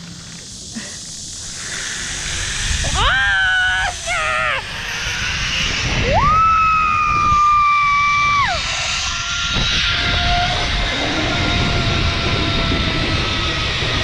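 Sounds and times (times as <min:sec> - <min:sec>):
zip line pulleys whining on cable: 0:00.0 - 0:14.0
rush of air: 0:00.4 - 0:14.0.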